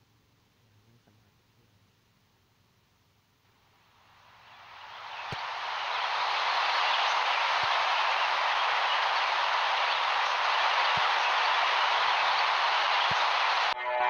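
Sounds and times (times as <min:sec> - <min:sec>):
steady hiss: 0:00.0 - 0:13.8.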